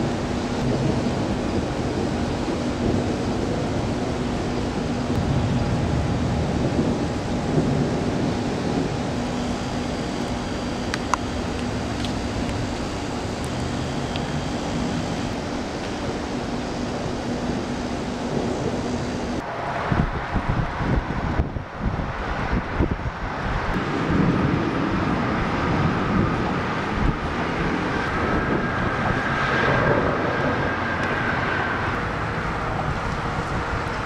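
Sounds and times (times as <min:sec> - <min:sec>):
thunder rumbling: 0:00.0 - 0:34.0
wind buffeting microphone: 0:00.0 - 0:34.0.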